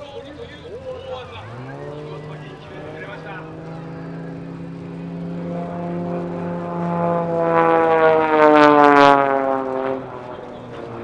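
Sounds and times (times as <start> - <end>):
propeller plane passing: 0.0 - 11.0.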